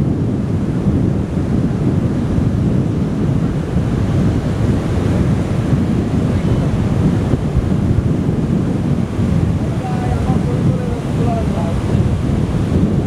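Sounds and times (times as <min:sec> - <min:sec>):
sea surf washing on beach: 0:00.0 - 0:13.0
wind buffeting microphone: 0:00.0 - 0:13.0.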